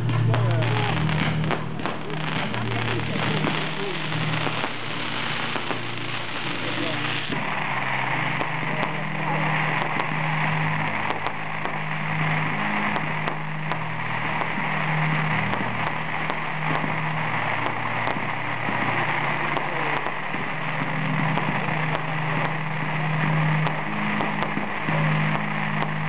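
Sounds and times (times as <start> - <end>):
fireworks crackling hiss: 0.0 - 26.0
small fireworks pops: 0.0 - 26.0.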